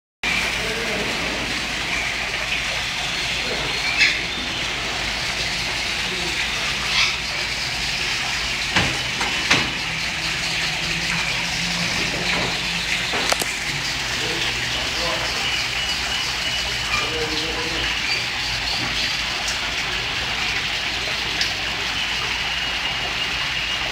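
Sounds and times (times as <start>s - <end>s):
waterfall splashing into pool: 0.2s - 23.9s.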